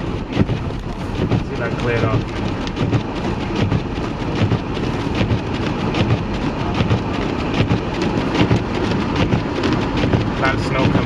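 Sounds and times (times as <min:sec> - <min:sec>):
road noise low rumble: 0:00.0 - 0:11.0
rushing wind: 0:00.0 - 0:11.0
snow clicking on vehicle: 0:00.0 - 0:11.0.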